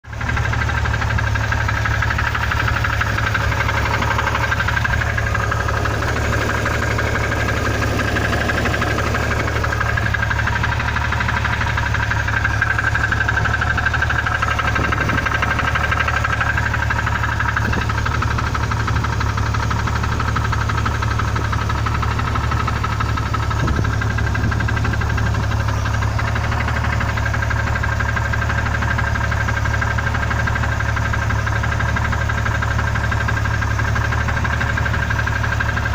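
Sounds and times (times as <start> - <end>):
engine running with knock: 0.0 - 35.9.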